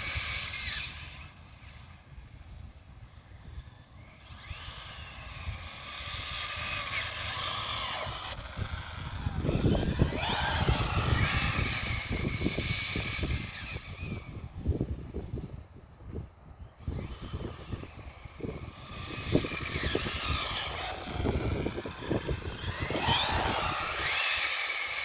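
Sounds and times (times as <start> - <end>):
rc car motor whine: 0.0 - 25.0
wind on microphone: 0.0 - 25.0.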